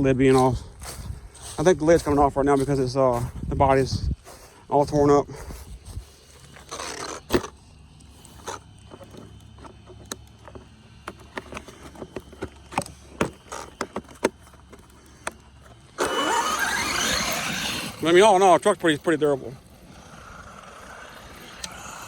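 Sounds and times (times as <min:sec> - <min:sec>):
toy truck motor and tyres rushing: 0:00.0 - 0:22.0.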